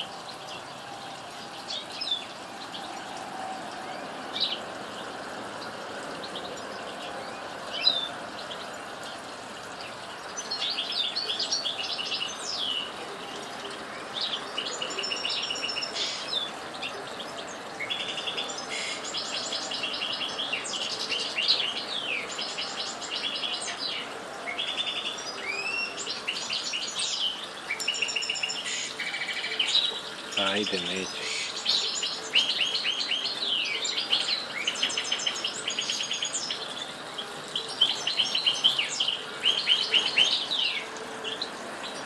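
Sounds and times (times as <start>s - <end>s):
nightingale calling: 0.0s - 42.0s
nightingale song with trills: 0.0s - 42.0s.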